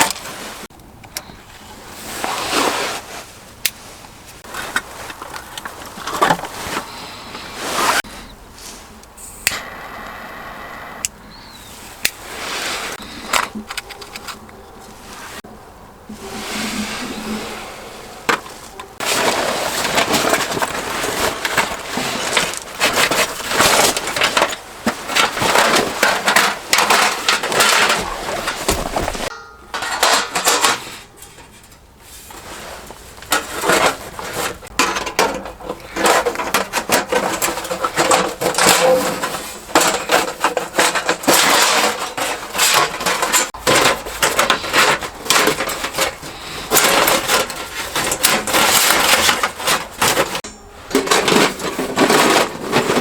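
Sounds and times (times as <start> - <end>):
clattering and rustling handling noise: 0.0 - 9.5, 11.6 - 53.0.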